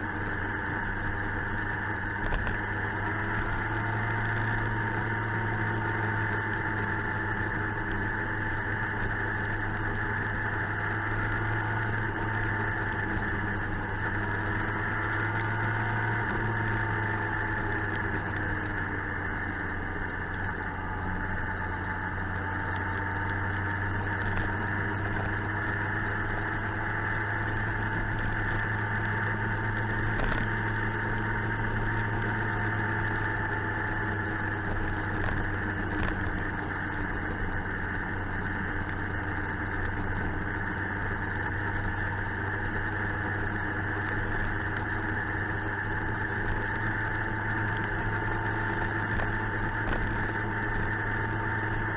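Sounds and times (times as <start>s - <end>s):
motorcycle engine running steadily: 0.0s - 51.9s.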